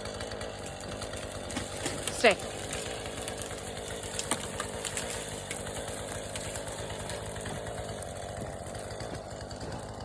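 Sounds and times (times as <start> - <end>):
chainsaw engine idling: 0.0 - 10.0.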